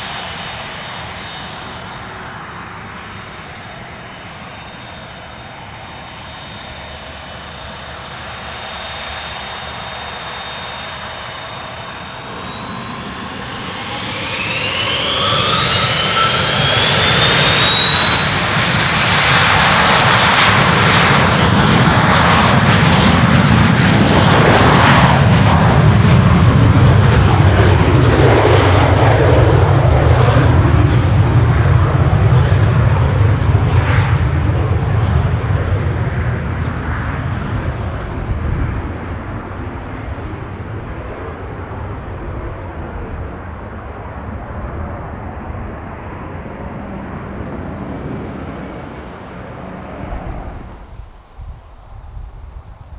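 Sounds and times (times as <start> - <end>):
aircraft turbine engines spooling up: 0.0 - 52.9.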